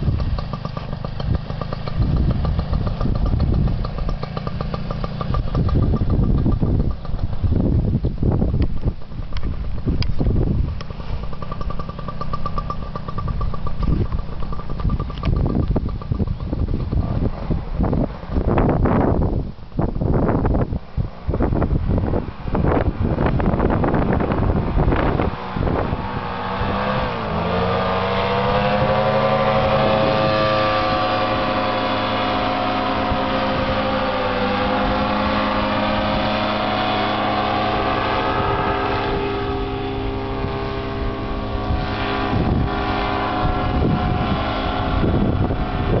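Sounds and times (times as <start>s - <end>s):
paramotor engine buzzing: 0.0s - 46.0s.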